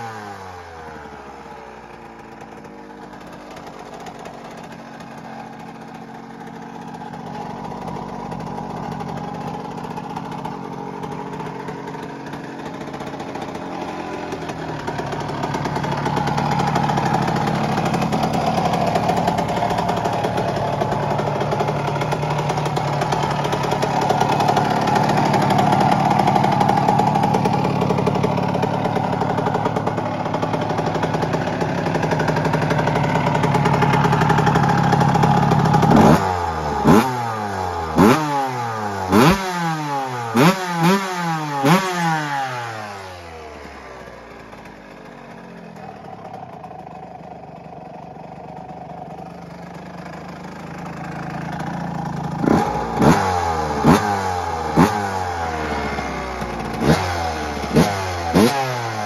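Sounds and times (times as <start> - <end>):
two-stroke motorcycle engine revving: 0.0 - 59.0.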